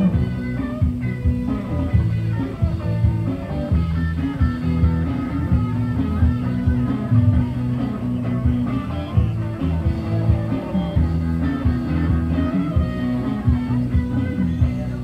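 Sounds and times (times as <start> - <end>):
drum beat: 0.0 - 15.0
electric guitar: 0.0 - 15.0
rock band playing: 0.0 - 15.0.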